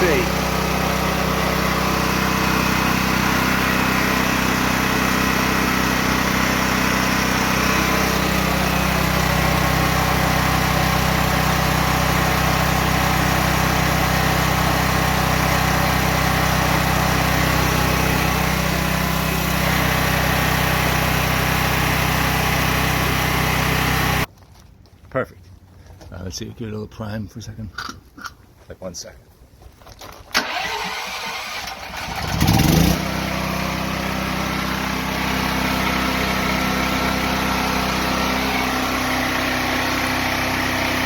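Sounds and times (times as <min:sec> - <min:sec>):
generator engine running: 0:00.0 - 0:24.3, 0:30.4 - 0:41.0.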